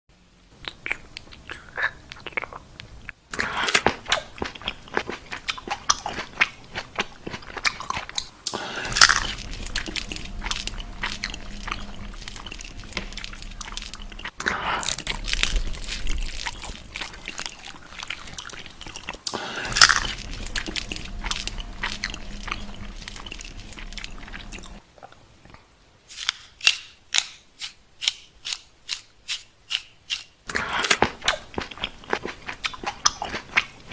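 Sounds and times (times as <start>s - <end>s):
crunchy eating and chewing: 0.6s - 33.9s.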